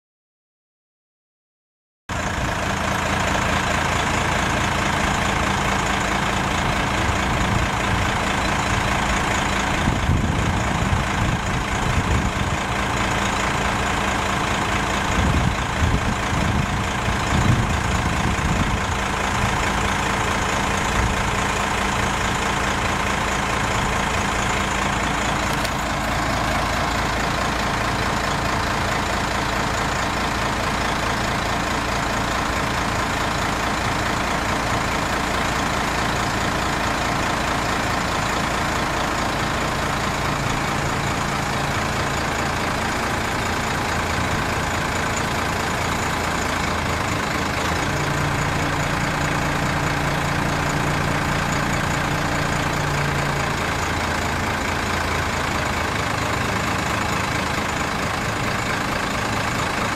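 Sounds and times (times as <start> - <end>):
diesel truck engine running: 2.1 - 59.9.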